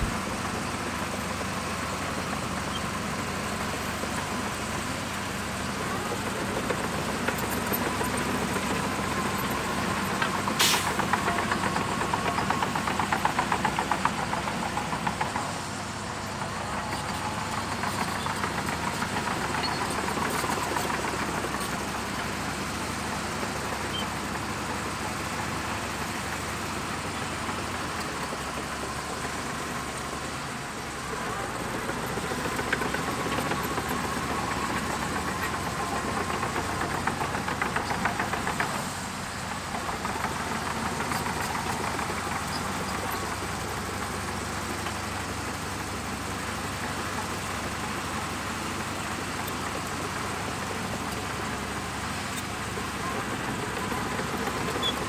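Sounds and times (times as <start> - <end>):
bulldozer diesel engine knocking: 0.0 - 55.0.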